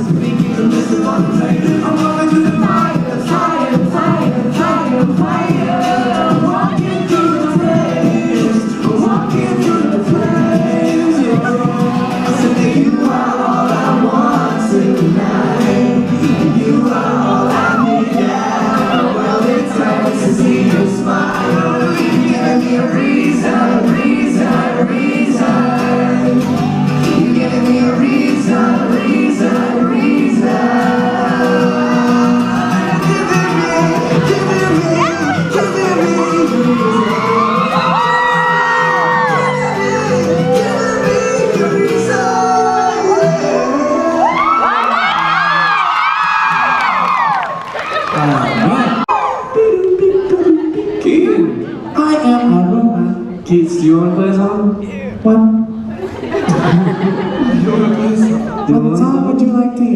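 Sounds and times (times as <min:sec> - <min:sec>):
live pop band playing: 0:00.0 - 0:59.9
person singing: 0:00.0 - 0:59.9.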